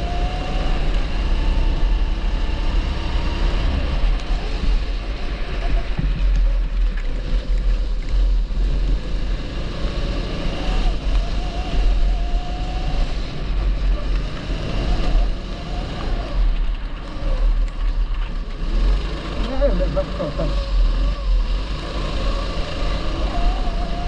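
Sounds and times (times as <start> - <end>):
kart engine running: 0.0 - 24.0
wind rumble on microphone: 0.0 - 24.0.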